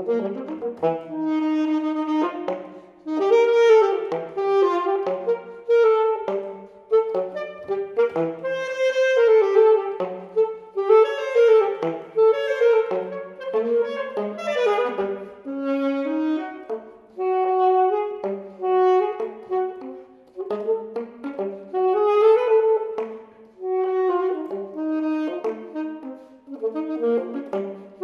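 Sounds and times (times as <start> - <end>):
alto saxophone solo: 0.0 - 28.0.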